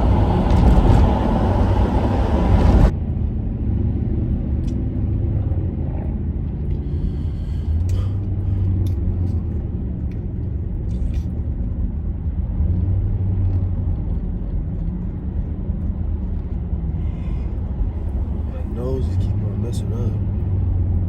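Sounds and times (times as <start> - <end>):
car engine rumble: 0.0 - 21.0
road noise: 0.0 - 21.0.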